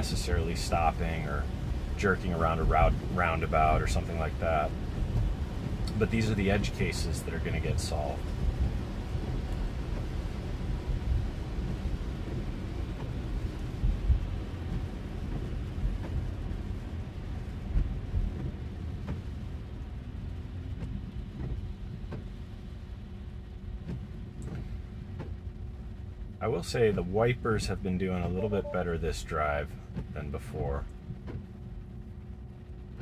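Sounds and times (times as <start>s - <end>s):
tyres on wet road: 0.0s - 33.0s.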